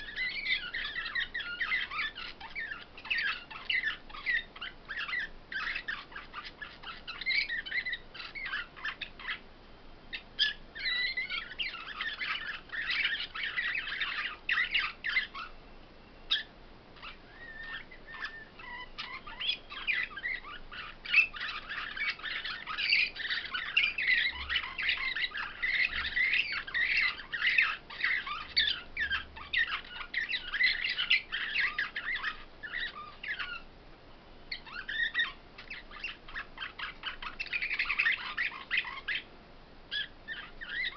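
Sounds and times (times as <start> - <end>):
finches twittering song: 0.0 - 9.4, 10.1 - 33.7, 34.5 - 39.3, 39.9 - 40.9.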